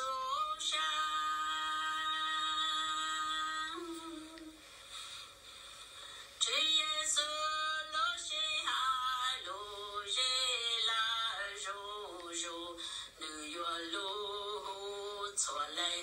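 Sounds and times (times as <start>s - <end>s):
person singing: 0.0s - 4.7s, 6.4s - 16.0s.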